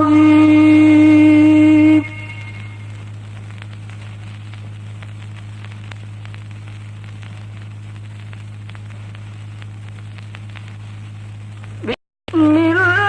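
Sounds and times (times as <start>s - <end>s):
crackling clicks: 0.0s - 13.0s
low electrical hum: 0.0s - 13.0s
recording hiss: 0.0s - 13.0s.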